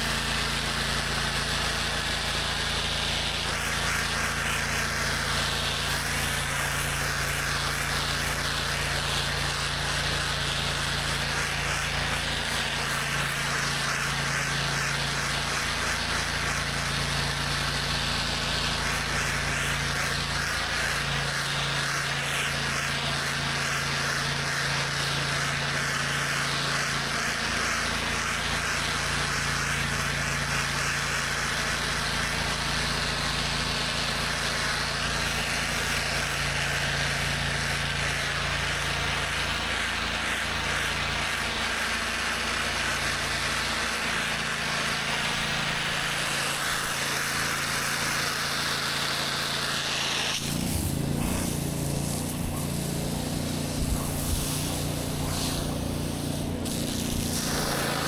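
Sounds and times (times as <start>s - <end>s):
high-pressure water spraying: 0.0s - 58.0s
pressure washer engine running: 0.0s - 58.0s.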